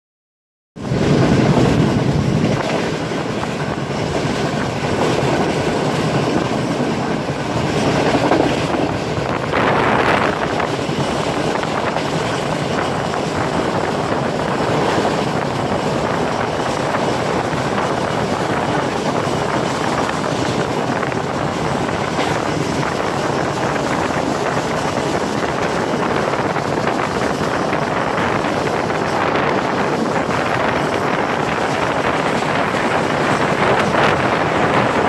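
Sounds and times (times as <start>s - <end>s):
train wheels rushing on track: 0.8s - 35.0s
wind buffeting microphone: 0.8s - 35.0s.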